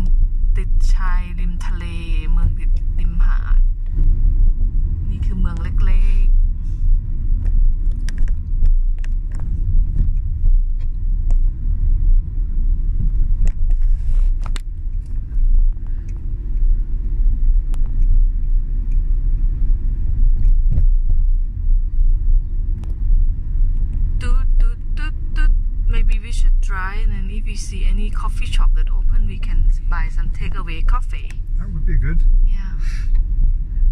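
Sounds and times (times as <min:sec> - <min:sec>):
engine and tyre rumble: 0:00.0 - 0:33.9.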